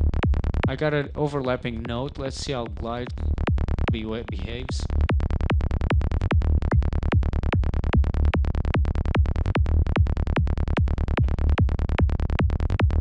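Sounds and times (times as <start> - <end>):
electronic kick drum: 0.0 - 13.0
rolling synth bass notes: 0.0 - 13.0.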